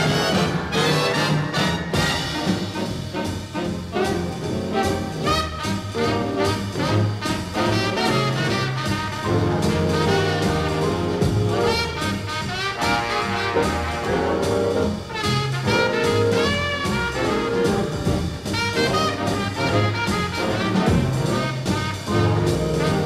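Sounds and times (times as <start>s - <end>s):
swing jazz with brass: 0.0s - 23.0s.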